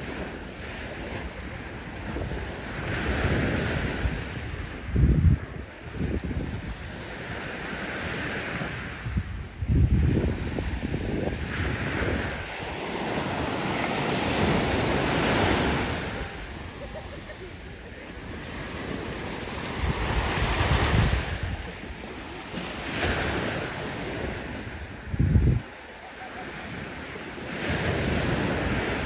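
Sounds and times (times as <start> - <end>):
small waves breaking on shore: 0.0 - 29.0
wind buffeting microphone: 0.0 - 29.0.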